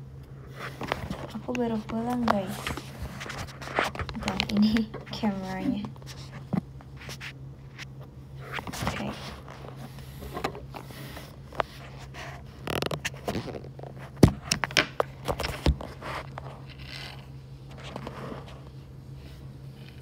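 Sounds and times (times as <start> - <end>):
steady low hum: 0.0 - 20.0
phone handling rubbing and scraping: 0.5 - 18.8.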